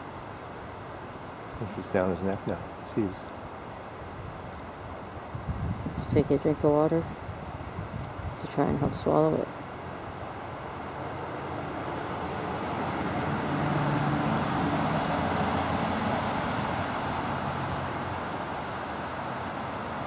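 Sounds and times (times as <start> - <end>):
road vehicle passing: 1.3 - 20.0.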